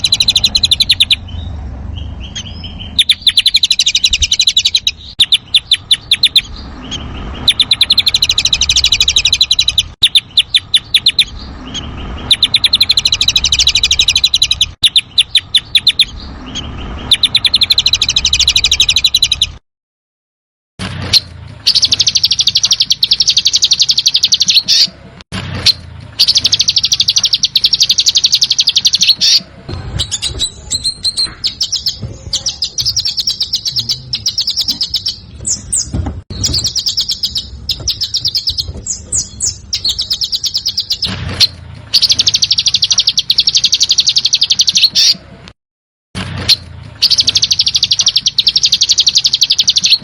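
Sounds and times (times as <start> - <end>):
songbird rattling trills: 0.0 - 19.6, 21.0 - 25.0, 25.6 - 45.2, 46.4 - 50.0.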